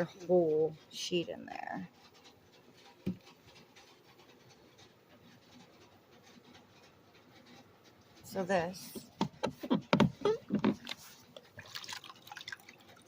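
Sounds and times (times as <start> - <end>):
faint scratching and rustling: 0.0 - 13.0.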